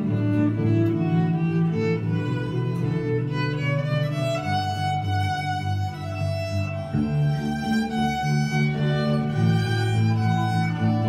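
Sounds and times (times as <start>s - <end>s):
electric violin held notes: 0.0s - 11.0s.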